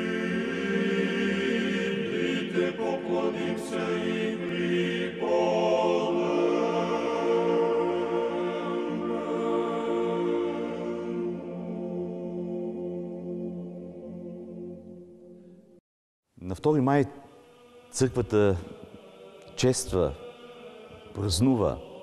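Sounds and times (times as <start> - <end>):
choral chant in held chords: 0.0 - 15.8, 16.8 - 22.0.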